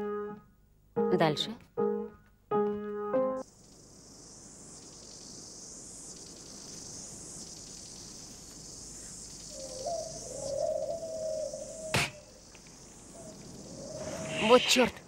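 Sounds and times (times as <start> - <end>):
insects chirring: 2.5 - 15.0.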